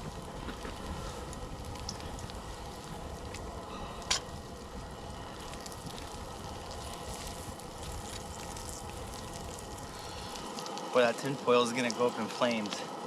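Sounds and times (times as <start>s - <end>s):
campfire crackling: 0.0s - 13.0s
sausage sizzling on a grill: 0.0s - 13.0s.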